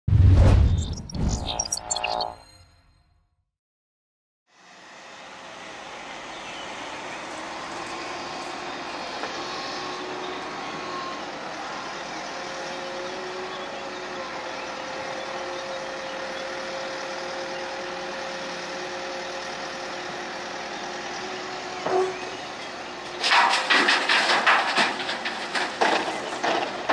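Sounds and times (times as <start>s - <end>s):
excavator diesel engine and hydraulics: 0.1s - 2.8s, 4.5s - 26.9s.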